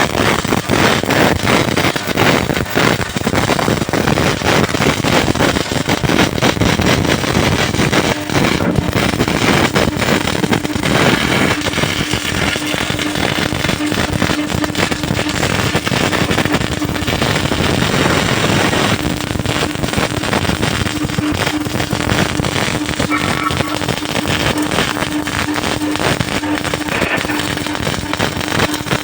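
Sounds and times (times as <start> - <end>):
welding arc crackling: 0.0 - 29.0.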